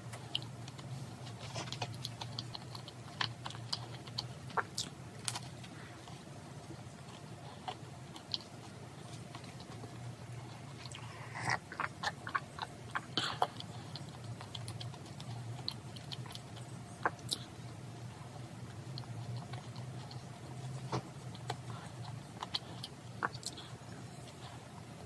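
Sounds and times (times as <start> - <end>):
chewing cake: 0.0 - 25.0
steady low hum: 0.0 - 25.0.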